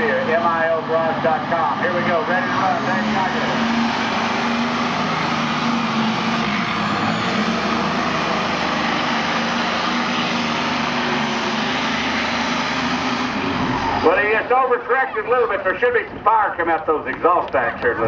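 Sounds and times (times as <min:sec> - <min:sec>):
loud tractor engine: 0:00.0 - 0:18.0.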